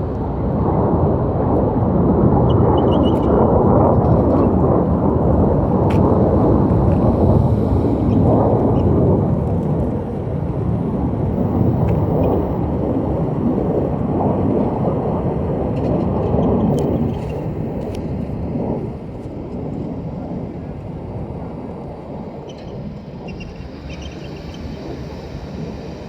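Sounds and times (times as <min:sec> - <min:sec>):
fighter jets roaring overhead: 0:00.0 - 0:26.0.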